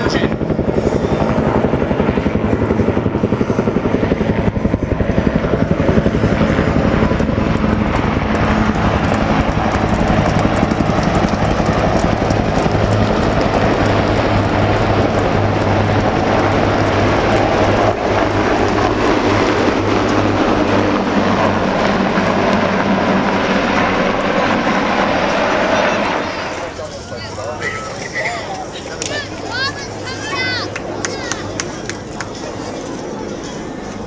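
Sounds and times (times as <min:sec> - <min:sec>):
helicopter rotor blades beating: 0:00.0 - 0:34.0
low turbine hum: 0:00.0 - 0:34.0.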